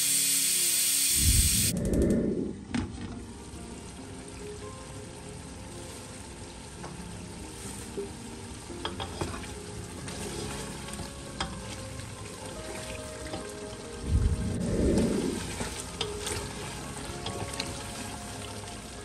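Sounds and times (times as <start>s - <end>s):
chicken sizzling in a pot: 0.0s - 1.8s, 3.1s - 14.1s, 15.0s - 19.0s.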